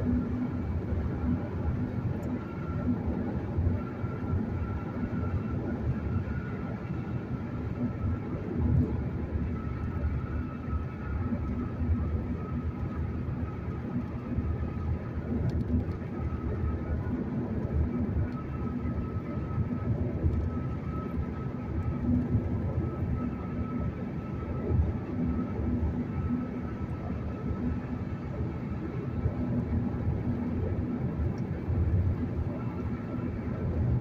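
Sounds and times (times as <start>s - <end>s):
faint high whine: 0.0s - 34.0s.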